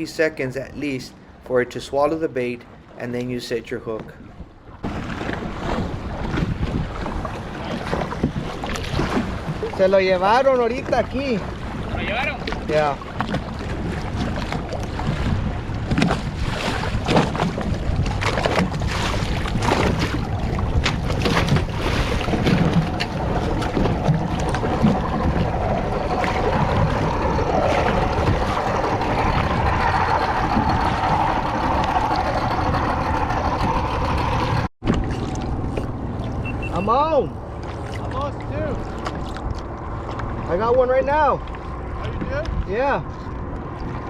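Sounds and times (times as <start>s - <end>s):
wind and sea rush: 0.0s - 44.0s
water slapping against hull: 3.9s - 44.0s
splashes: 4.8s - 42.9s.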